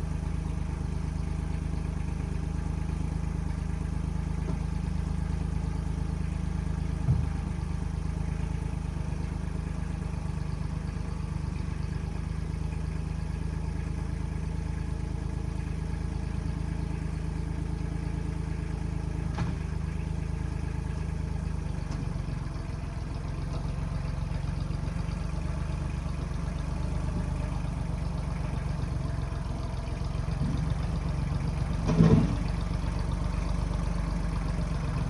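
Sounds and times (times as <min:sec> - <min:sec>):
backhoe diesel engine running: 0:00.0 - 0:35.0.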